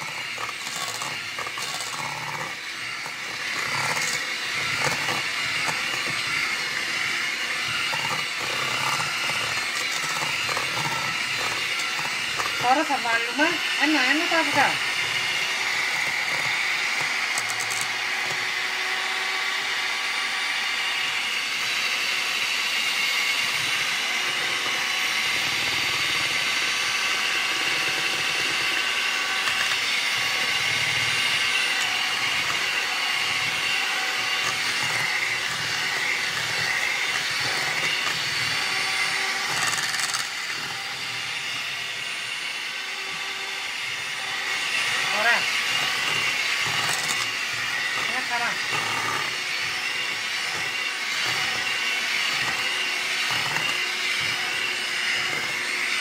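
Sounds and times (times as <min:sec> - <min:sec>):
electric hand mixer whisking: 0:00.0 - 0:56.0.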